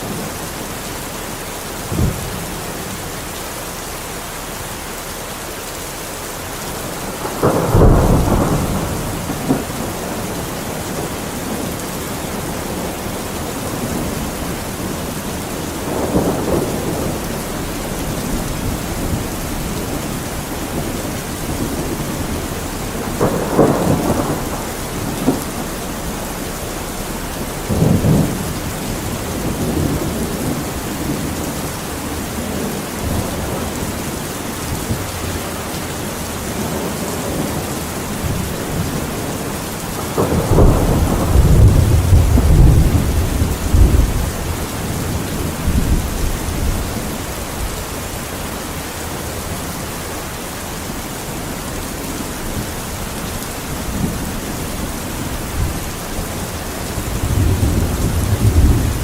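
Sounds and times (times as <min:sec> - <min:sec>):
steady rain: 0:00.0 - 0:59.0
rolling thunder: 0:01.8 - 0:03.0, 0:06.8 - 0:48.2, 0:51.3 - 0:59.0.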